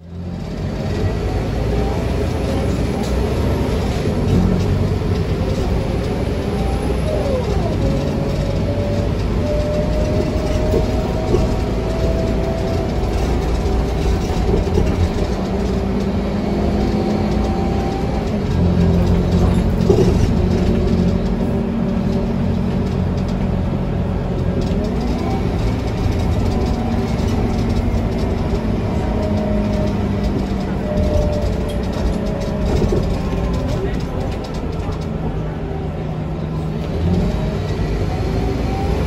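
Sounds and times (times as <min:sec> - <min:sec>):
bus engine drone: 0:00.0 - 0:39.0
thin drivetrain whine: 0:00.1 - 0:39.0.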